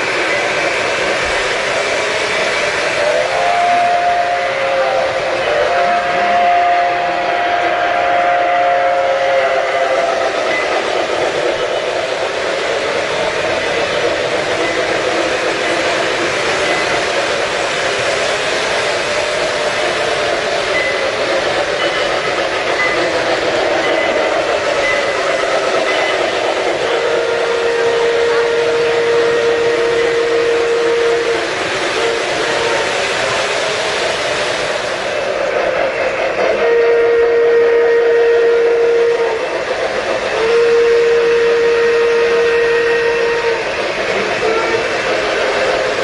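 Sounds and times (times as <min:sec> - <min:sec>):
metal wheels rumbling on track: 0:00.0 - 0:46.0
model steam locomotive whistle: 0:00.0 - 0:46.0.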